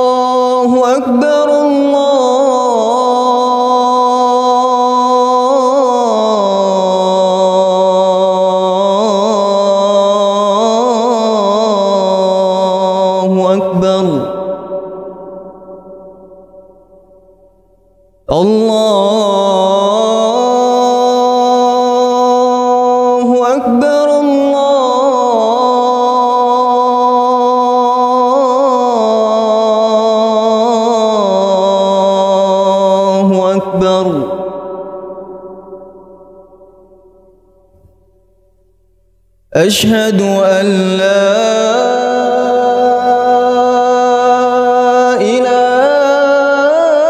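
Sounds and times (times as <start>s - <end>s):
man chanting call to prayer: 0.0s - 16.7s, 18.3s - 36.7s, 39.5s - 47.0s.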